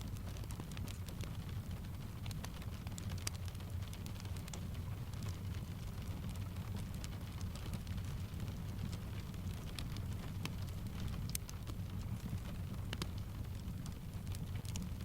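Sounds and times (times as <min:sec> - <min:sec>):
fire crackling: 0:00.0 - 0:15.0
steady rain: 0:00.0 - 0:15.0.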